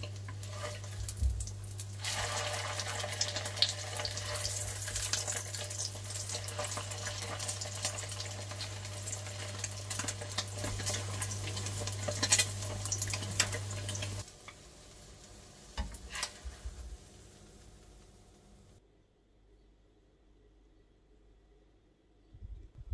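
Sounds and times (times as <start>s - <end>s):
food sizzling in frying pan: 0.0s - 18.8s.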